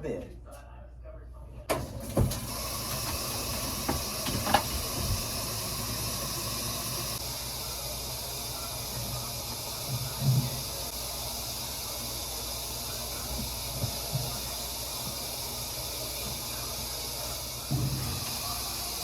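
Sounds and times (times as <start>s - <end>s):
water running: 1.7s - 19.0s.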